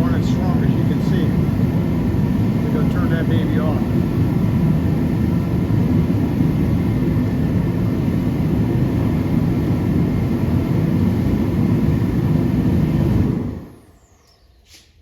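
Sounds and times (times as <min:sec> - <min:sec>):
heater burner and fan rushing: 0:00.0 - 0:15.0.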